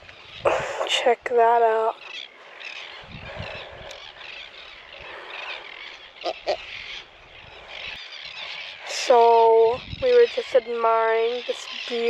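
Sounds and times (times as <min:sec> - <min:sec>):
seabirds calling: 0:00.0 - 0:12.0.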